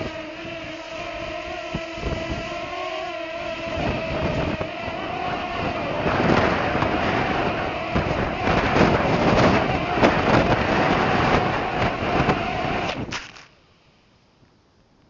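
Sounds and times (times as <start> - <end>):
drone propeller motors whining: 0.0 - 13.4
wind noise on microphone: 0.0 - 13.4.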